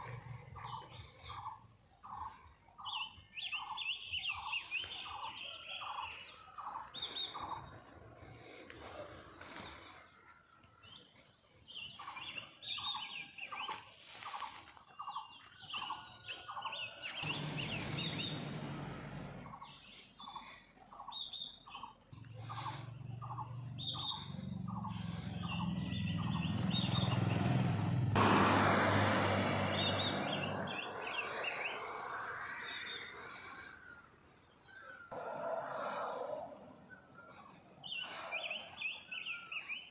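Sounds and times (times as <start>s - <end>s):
birds chirping: 0.0s - 39.9s
vehicles passing on road: 0.0s - 39.9s.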